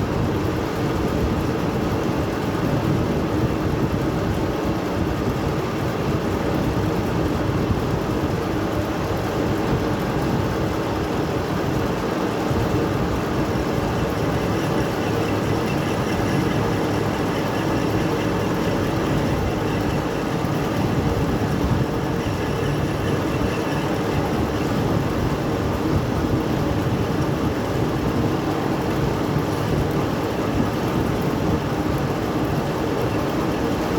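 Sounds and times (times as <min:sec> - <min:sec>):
lathe mechanical drone: 0:00.1 - 0:33.9.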